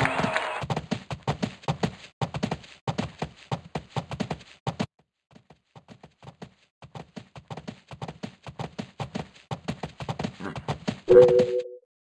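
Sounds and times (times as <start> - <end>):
horse hooves clip-clopping: 0.6 - 11.5.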